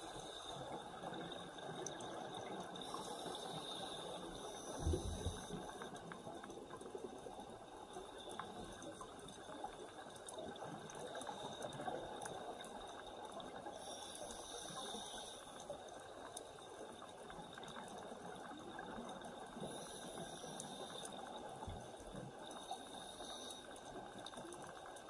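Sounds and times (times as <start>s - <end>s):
underwater watery hiss: 0.0s - 7.2s, 8.0s - 24.6s.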